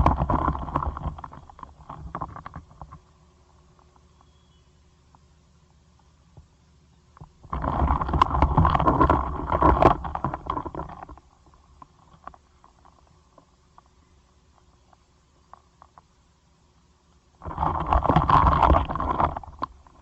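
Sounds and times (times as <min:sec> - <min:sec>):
beetles scraping and rubbing: 0:00.0 - 0:04.6, 0:07.2 - 0:16.1, 0:17.4 - 0:20.0.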